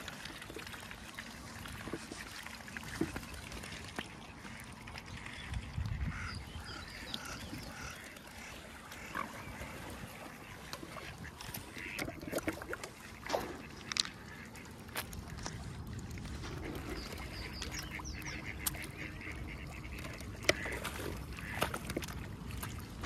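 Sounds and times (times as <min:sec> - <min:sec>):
waterfowl calling: 0:02.6 - 0:15.7, 0:16.4 - 0:22.3.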